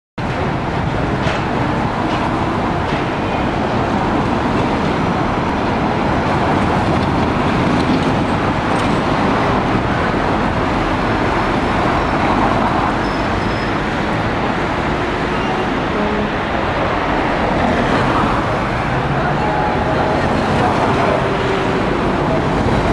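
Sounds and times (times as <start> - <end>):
cars driving past: 0.3 - 22.9.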